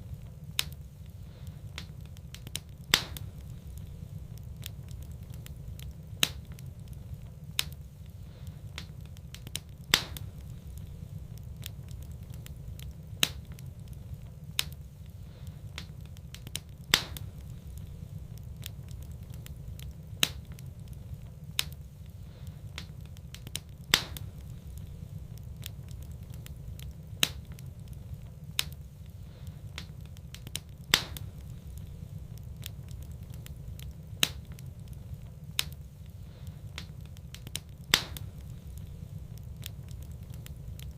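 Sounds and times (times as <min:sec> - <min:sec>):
steady low rumble: 0:00.0 - 0:40.9
wood fire crackling and popping: 0:00.0 - 0:40.9.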